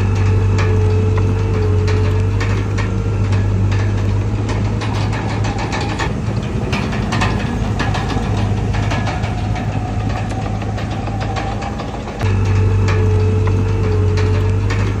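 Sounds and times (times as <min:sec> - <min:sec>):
bulldozer diesel engine humming: 0:00.0 - 0:15.0
machine clicks and clanks: 0:00.0 - 0:15.0.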